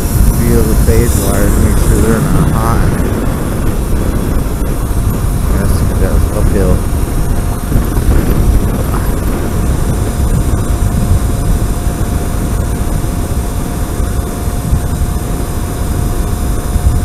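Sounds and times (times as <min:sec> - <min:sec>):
electric motor whine: 0:00.0 - 0:17.0
wind rushing over microphone: 0:00.0 - 0:17.0.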